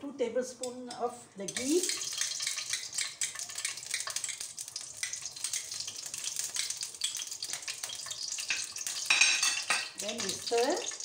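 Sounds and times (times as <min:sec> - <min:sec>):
ghee sizzling in frying pan: 0:01.4 - 0:11.0.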